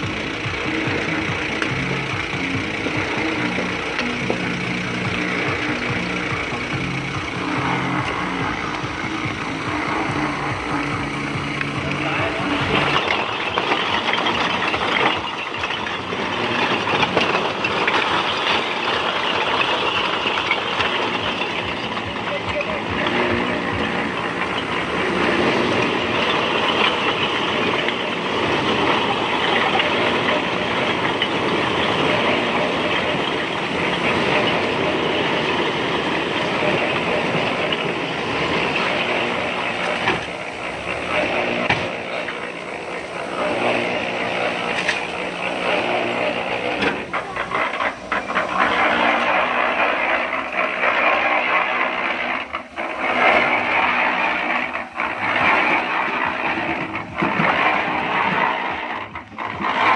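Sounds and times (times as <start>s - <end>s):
knocks and clatter: 0.0s - 59.9s
machinery running: 0.0s - 59.9s.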